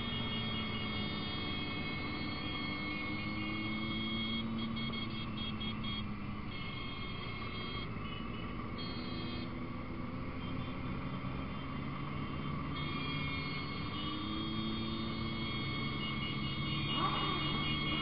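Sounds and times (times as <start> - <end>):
motorcycle engines cruising: 0.0 - 18.0.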